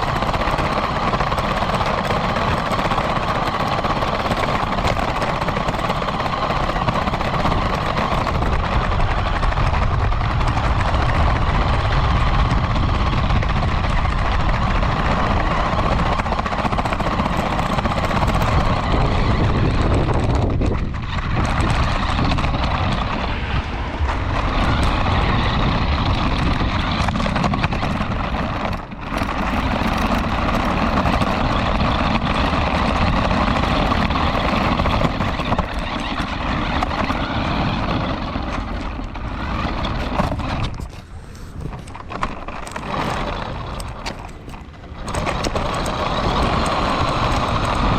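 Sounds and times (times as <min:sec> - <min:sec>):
buzzing electric motor: 0:00.0 - 0:47.9
rattling wheel noise: 0:00.0 - 0:47.9.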